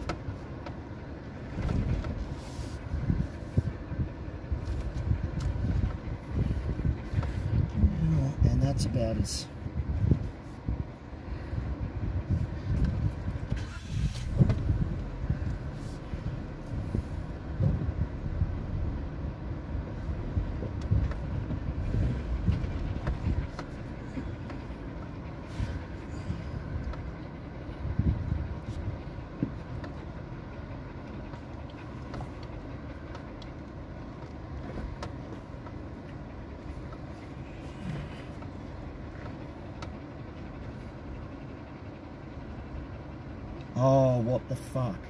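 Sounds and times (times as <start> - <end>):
low vehicle rumble: 0.0 - 45.0.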